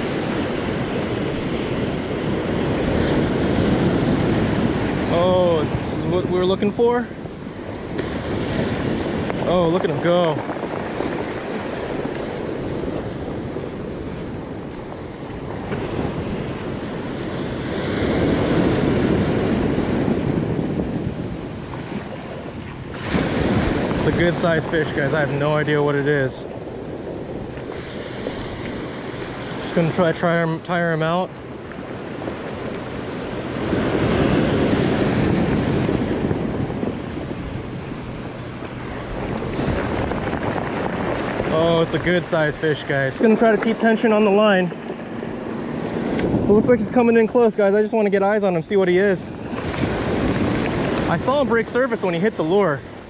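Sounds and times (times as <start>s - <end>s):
ocean surf washing on beach: 0.0s - 53.0s
wind buffeting microphone: 0.0s - 53.0s.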